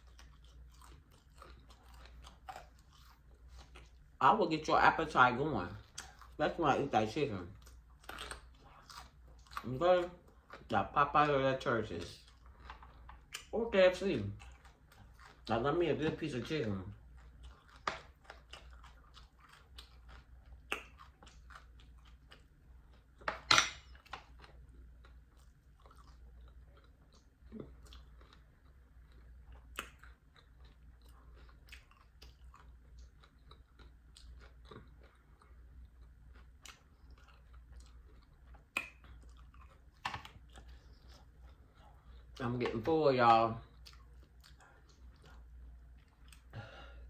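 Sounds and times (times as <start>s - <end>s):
chewing crunchy fried fish: 0.0s - 47.0s.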